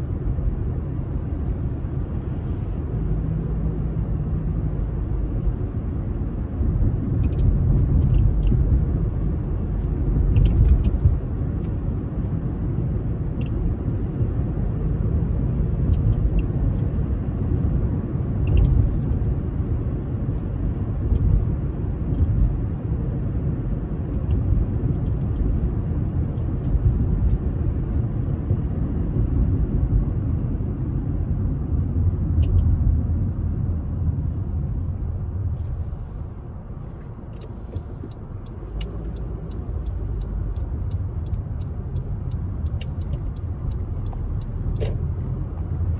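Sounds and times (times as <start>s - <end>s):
car and road noise rumble: 0.0s - 45.9s.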